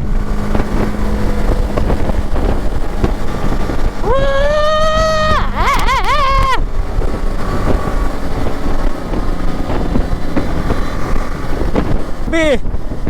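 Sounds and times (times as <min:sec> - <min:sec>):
motorcycle engine at speed: 0:00.0 - 0:13.0
wind rushing on microphone: 0:00.0 - 0:13.0.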